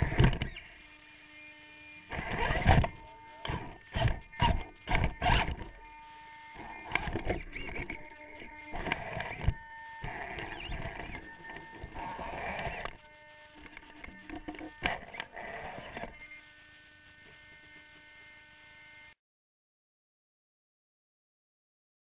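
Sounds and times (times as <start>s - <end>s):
small electric motors whirring: 0.0s - 19.2s.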